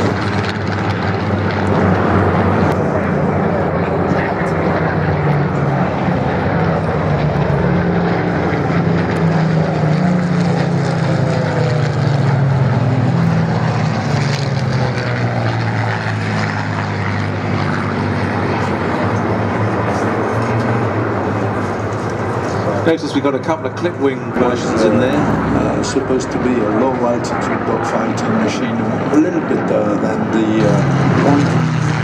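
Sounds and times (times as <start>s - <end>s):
propeller planes flying past: 0.0s - 32.0s.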